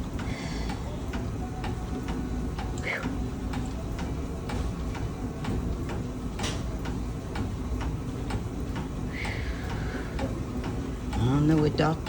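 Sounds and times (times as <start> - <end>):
exercise bike clicking: 0.0 - 12.0.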